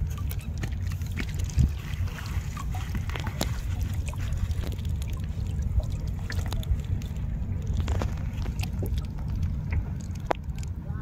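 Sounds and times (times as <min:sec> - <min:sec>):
water dripping off a net: 0:00.0 - 0:10.8
low rumble: 0:00.0 - 0:11.0.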